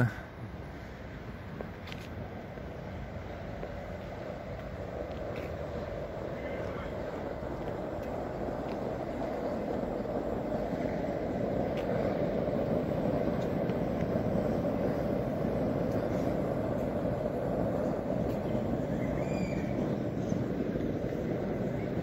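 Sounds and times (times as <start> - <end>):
gas flame roaring: 2.5 - 22.0.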